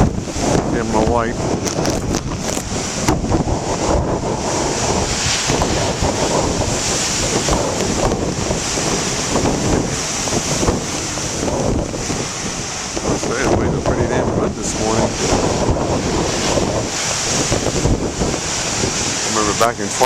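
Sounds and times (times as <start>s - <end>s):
ocean waves breaking: 0.0s - 20.0s
wind buffeting microphone: 0.0s - 20.0s.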